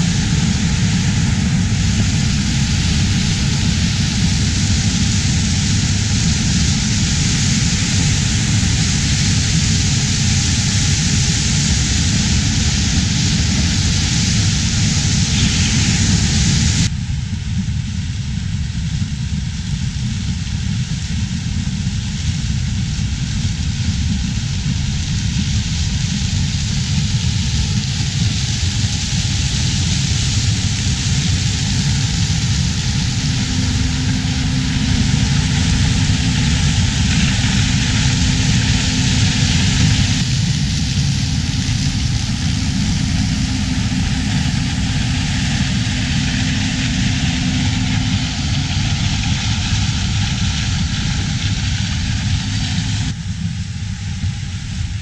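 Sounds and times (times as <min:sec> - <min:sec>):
faint steady hum: 0:00.0 - 0:55.0
machine running with deep rumble: 0:00.0 - 0:55.0.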